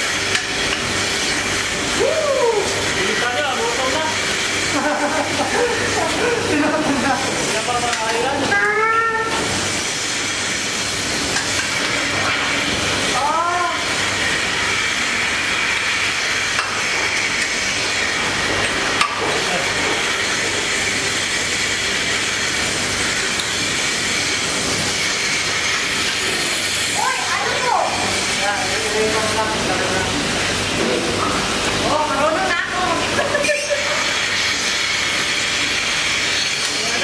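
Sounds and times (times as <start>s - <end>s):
milking machinery hiss and drone: 0.0s - 37.0s.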